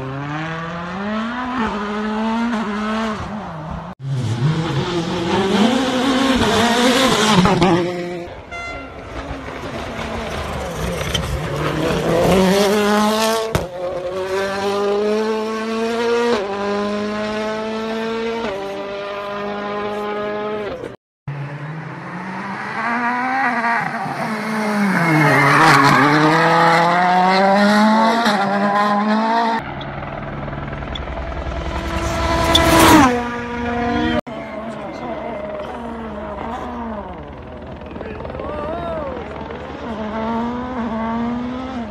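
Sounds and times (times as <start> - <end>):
rally car engine at full throttle: 0.0 - 41.9.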